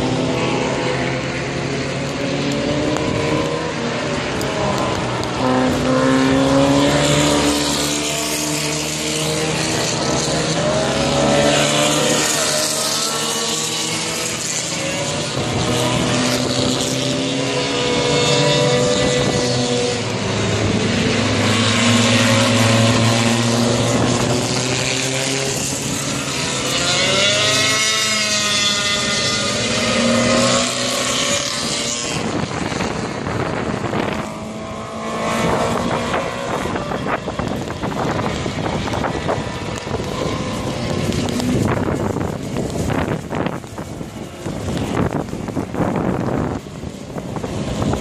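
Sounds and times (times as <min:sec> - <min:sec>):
race cars passing: 0:00.0 - 0:48.0.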